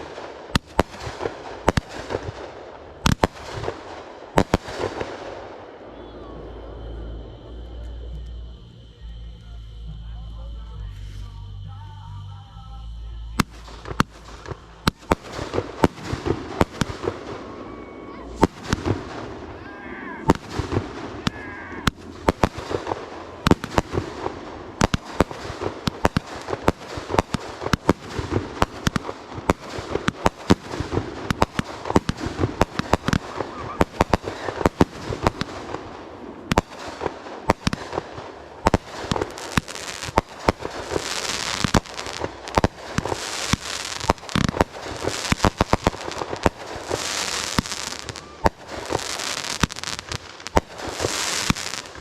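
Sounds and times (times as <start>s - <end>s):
fireworks bangs: 0.0s - 8.9s, 13.2s - 52.0s
hissing crackle of fireworks: 0.0s - 52.0s.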